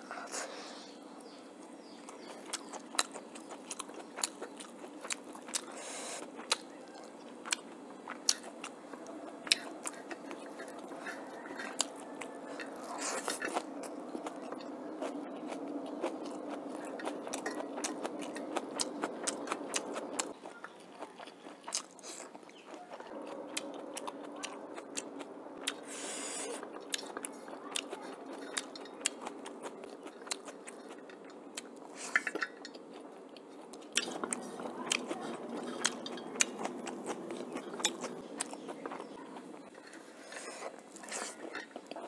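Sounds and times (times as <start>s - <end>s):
chewing with wet mouth clicks: 1.2s - 42.0s.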